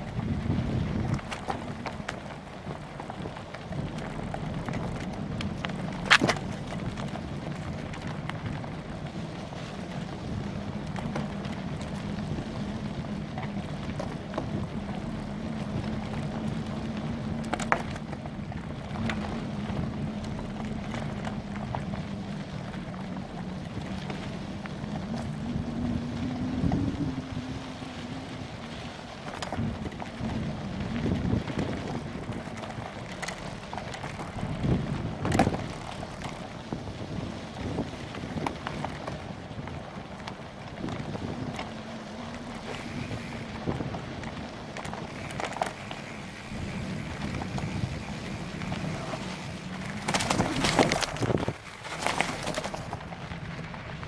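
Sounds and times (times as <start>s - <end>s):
bicycle tyres rolling rumble: 0.0s - 54.0s
wind on microphone: 0.0s - 54.0s.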